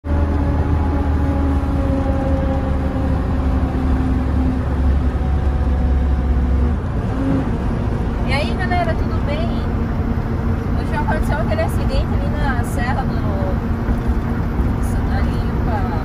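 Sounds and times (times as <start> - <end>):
diesel truck engine droning: 0.0 - 16.0.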